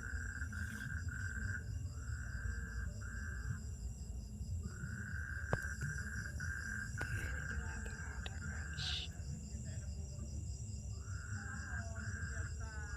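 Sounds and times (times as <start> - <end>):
insects trilling: 0.0 - 12.9.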